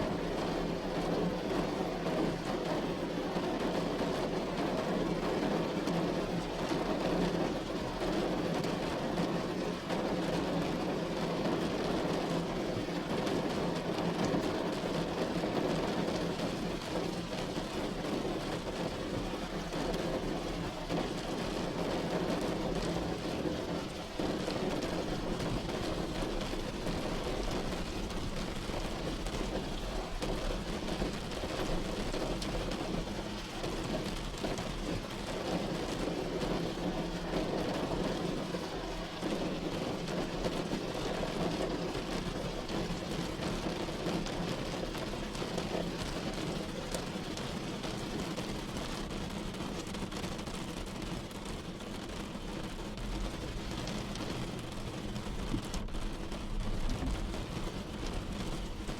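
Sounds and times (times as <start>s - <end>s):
rain on a roof: 0.0s - 58.9s.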